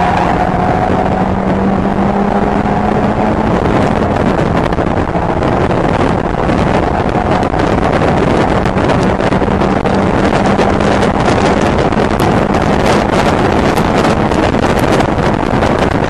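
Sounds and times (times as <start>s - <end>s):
race car engine running: 0.0s - 16.0s
wind and road noise: 0.0s - 16.0s.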